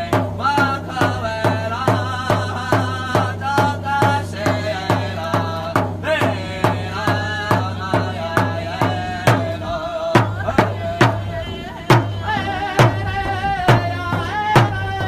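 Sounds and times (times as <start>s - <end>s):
drum beating steadily: 0.0s - 15.0s
voices singing together: 0.0s - 15.0s.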